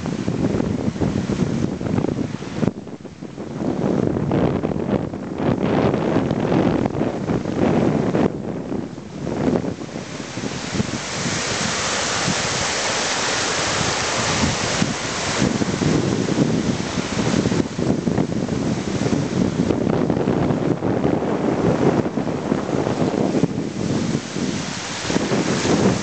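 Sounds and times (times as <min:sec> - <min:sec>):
waves washing over rocks: 0:00.0 - 0:26.0
wind buffeting microphone: 0:00.0 - 0:26.0.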